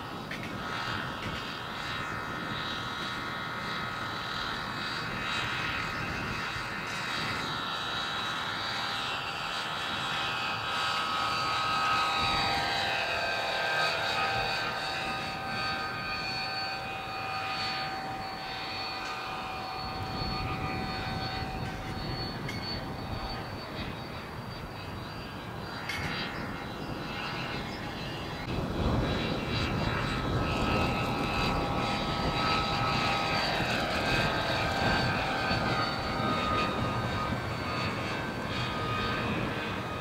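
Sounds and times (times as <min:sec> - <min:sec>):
model helicopter motor whine: 0:00.0 - 0:40.0.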